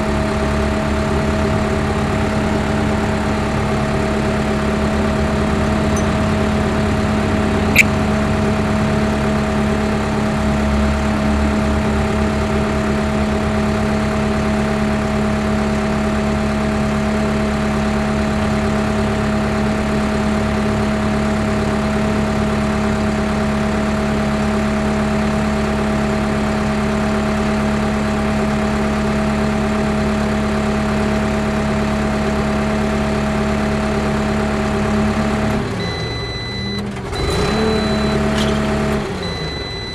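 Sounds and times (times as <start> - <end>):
skid steer engine droning: 0.0 - 39.9.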